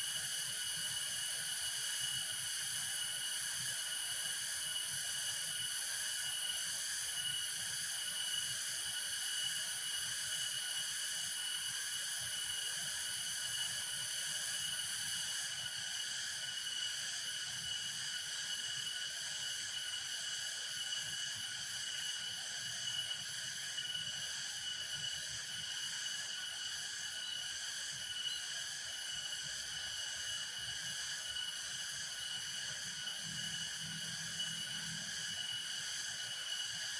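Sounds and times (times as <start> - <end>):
insect chorus trilling: 0.0 - 36.9.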